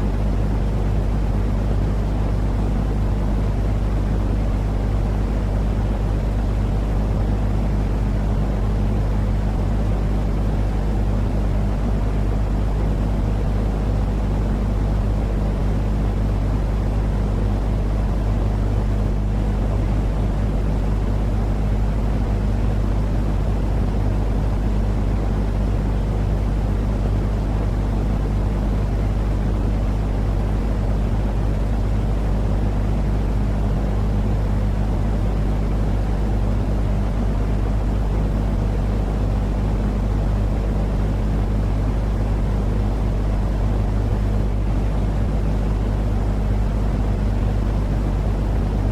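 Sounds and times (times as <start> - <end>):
constant low hum: 0.0 - 48.9.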